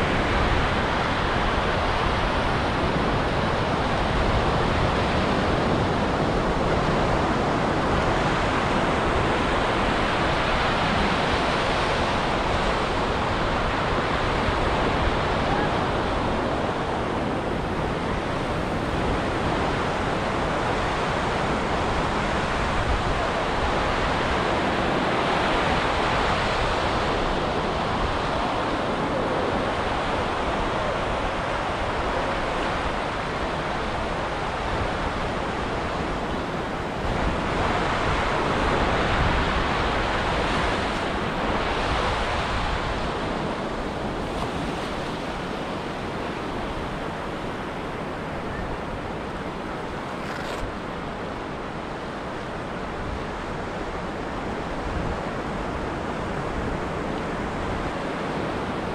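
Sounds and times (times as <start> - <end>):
ocean surf breaking on beach: 0.0 - 58.9.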